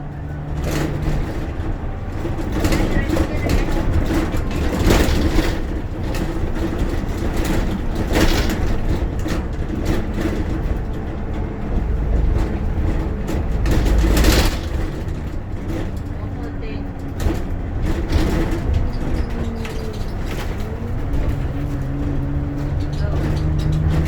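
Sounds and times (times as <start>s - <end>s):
bus engine and road rumble: 0.0s - 24.0s
constant hum: 0.0s - 24.0s
rattles: 0.0s - 24.0s.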